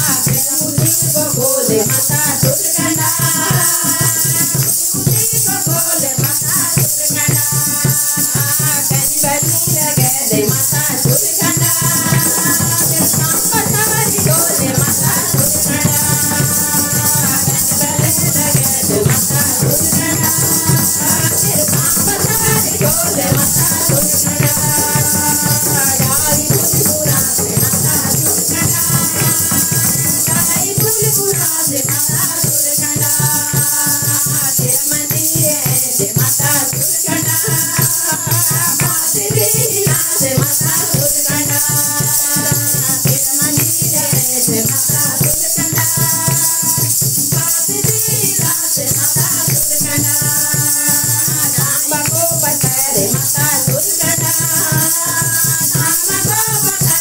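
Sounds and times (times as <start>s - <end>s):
dhol drum beat: 0.0s - 57.0s
hand clapping: 0.0s - 57.0s
rattling percussion: 0.0s - 57.0s
women singing devotional song: 0.0s - 57.0s.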